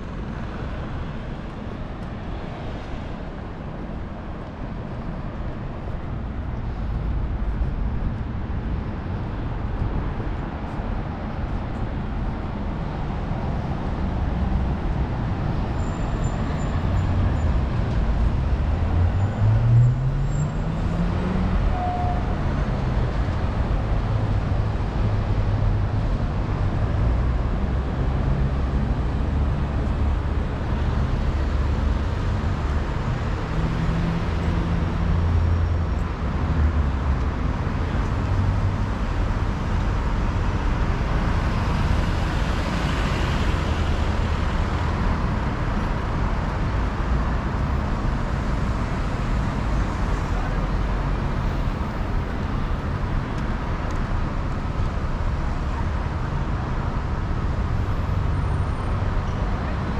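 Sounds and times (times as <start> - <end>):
traffic rumble: 0.0 - 59.9.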